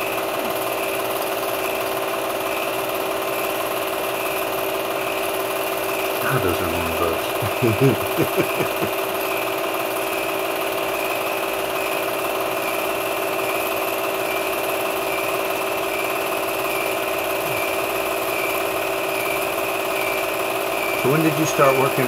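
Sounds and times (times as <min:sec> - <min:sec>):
film projector whirring: 0:00.0 - 0:07.4, 0:08.8 - 0:22.0.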